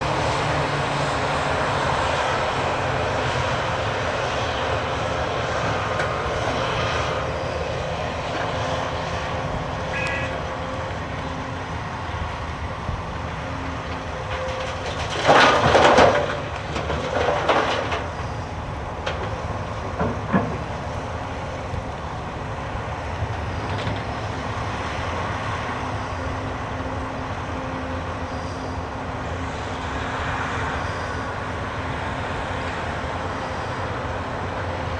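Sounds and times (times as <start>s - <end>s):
diesel machinery running: 0.0s - 34.9s.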